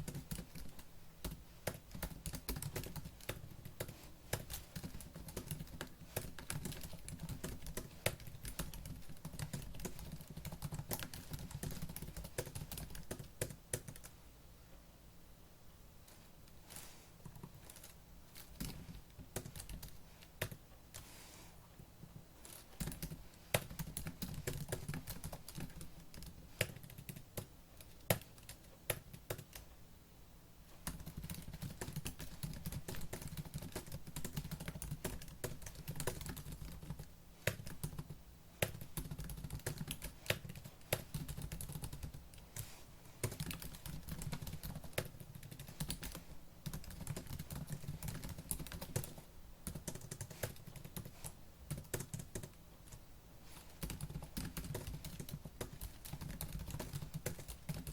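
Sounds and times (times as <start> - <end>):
fast typing on laptop keyboard: 0.0 - 14.1, 17.2 - 20.6, 22.4 - 29.7, 30.8 - 57.9.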